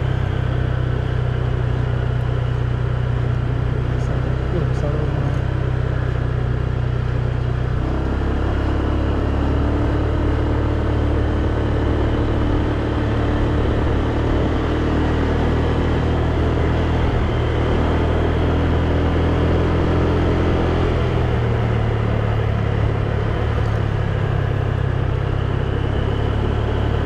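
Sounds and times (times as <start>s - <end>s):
motor scooter engine running: 0.0s - 27.0s.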